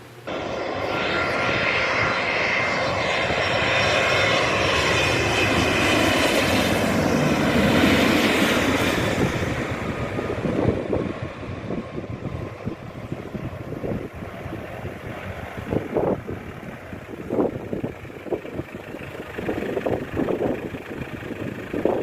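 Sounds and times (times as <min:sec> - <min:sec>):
airplane engines passing close: 0:00.0 - 0:22.0.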